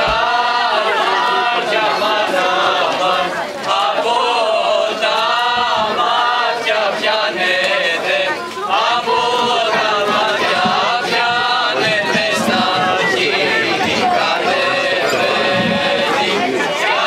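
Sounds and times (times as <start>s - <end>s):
group of voices singing unaccompanied: 0.0s - 17.0s.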